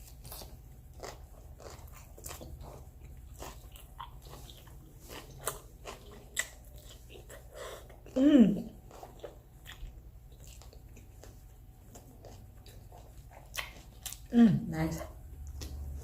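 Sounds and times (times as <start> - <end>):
person chewing a sandwich: 0.0 - 14.3, 15.2 - 16.0.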